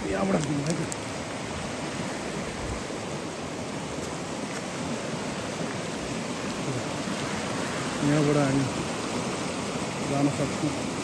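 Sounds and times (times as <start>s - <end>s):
fast river rushing over gravel: 0.0s - 11.0s.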